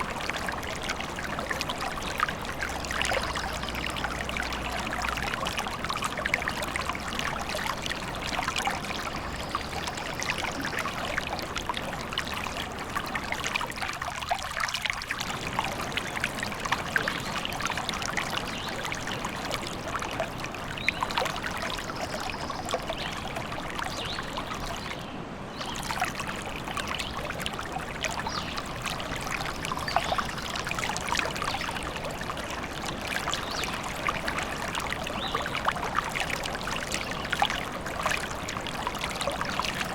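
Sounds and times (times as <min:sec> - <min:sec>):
small water splashes: 0:00.0 - 0:39.9
stream trickling and babbling: 0:00.0 - 0:39.9.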